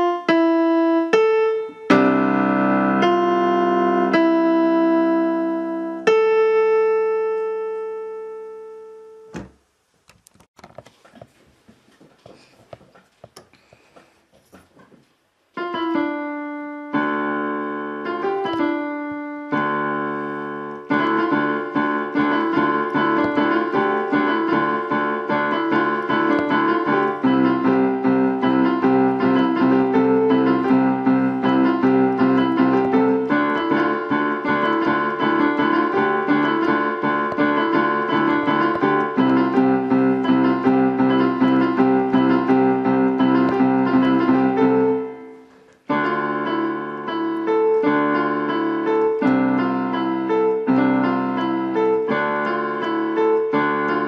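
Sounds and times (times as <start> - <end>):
fast repeated keyboard notes: 0.0 - 9.3, 15.6 - 54.0
keyboard chords: 0.0 - 9.7, 15.5 - 54.0.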